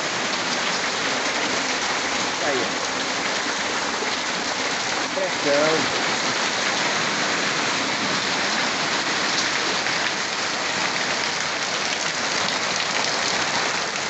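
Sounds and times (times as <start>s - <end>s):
heavy rain pouring: 0.0s - 14.0s
runoff water rushing: 0.0s - 14.0s.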